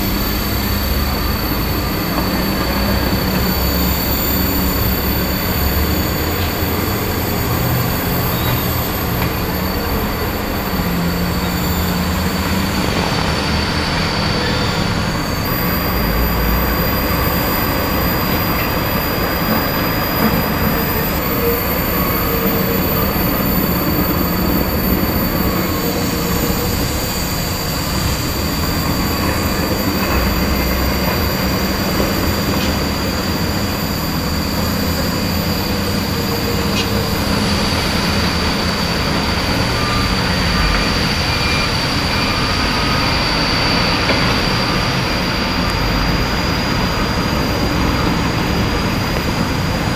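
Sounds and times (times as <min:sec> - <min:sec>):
diesel trucks rumbling: 0:00.0 - 0:49.9
high thin whine: 0:00.0 - 0:49.9.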